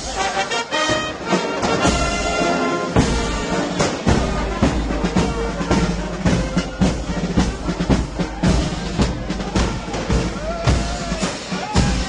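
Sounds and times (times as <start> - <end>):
bass and snare drum beat: 0.0 - 12.0
marching brass band playing: 0.0 - 12.0.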